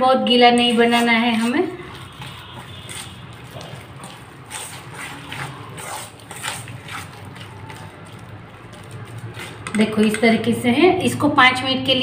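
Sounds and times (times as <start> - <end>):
hand squelching thick batter: 0.0 - 10.4.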